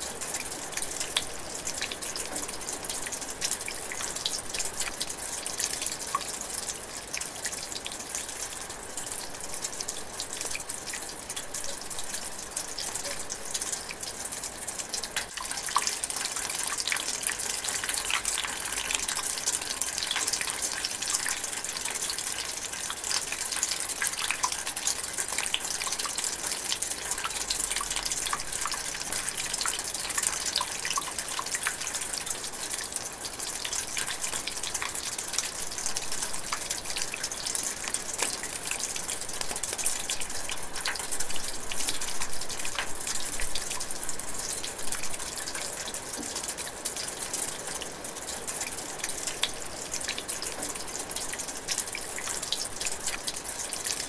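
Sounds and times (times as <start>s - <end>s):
light rain hissing: 0.0s - 54.0s
raindrops ticking: 0.0s - 54.0s.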